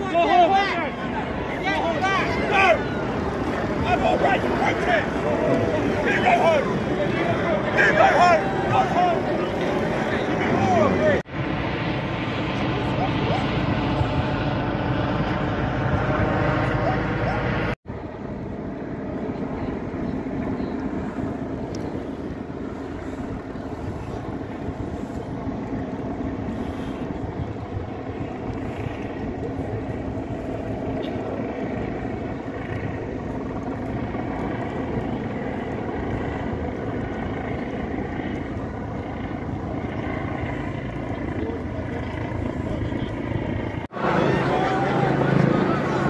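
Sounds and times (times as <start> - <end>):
engine drone: 0.0 - 46.0.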